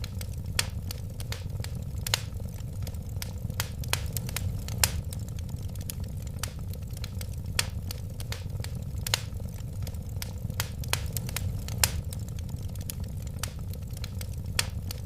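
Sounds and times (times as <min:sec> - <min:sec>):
low rumble of burning: 0:00.0 - 0:15.0
wood fire popping and snapping: 0:00.0 - 0:15.0.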